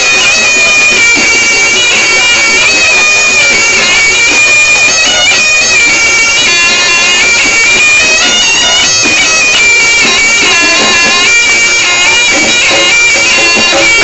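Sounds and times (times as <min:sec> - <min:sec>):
shawm playing reedy melody: 0:00.0 - 0:14.0.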